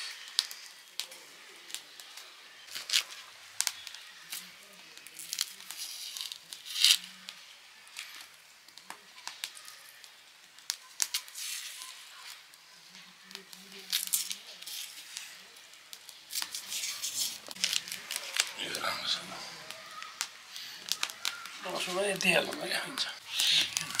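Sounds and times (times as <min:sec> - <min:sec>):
onion skin crackling and tearing: 0:00.0 - 0:24.0.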